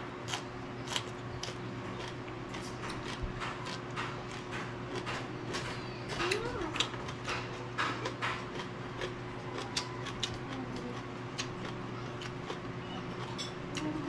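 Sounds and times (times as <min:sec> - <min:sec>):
chewing crunchy vegetables: 0:00.0 - 0:14.0
steady low hum: 0:00.0 - 0:14.0.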